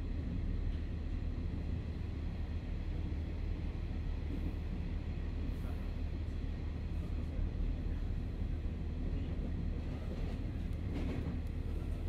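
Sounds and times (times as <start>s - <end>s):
railcar running rumble: 0.0s - 12.0s.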